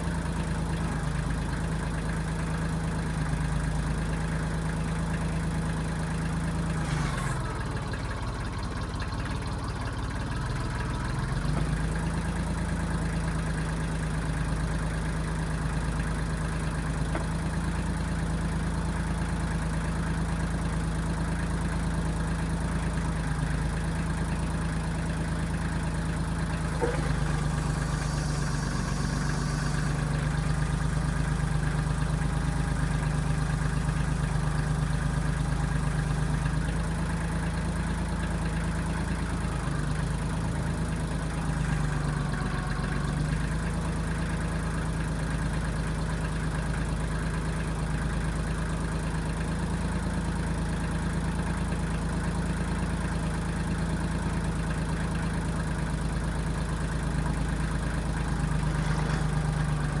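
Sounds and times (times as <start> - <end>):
backhoe diesel engine running: 0.0 - 60.0.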